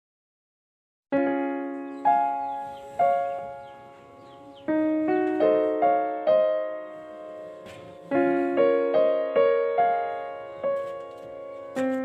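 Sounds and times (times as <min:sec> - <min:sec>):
piano notes and chords: 0:01.1 - 0:12.0.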